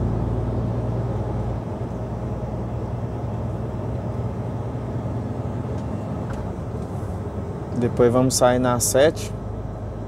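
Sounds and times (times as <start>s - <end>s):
road noise: 0.0s - 10.0s
truck diesel engine drone: 0.0s - 10.0s.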